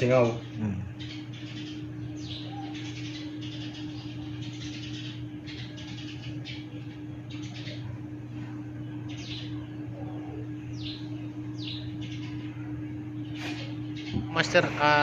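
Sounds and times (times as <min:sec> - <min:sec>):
steady low hum: 0:00.0 - 0:15.0
bird chirping: 0:00.2 - 0:15.0.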